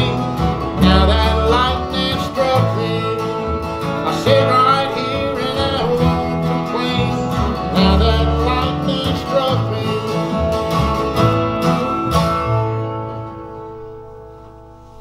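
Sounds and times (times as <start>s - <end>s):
country band playing: 0.0s - 15.0s
strummed acoustic guitars: 0.0s - 15.0s
walking upright bass notes: 0.0s - 15.0s.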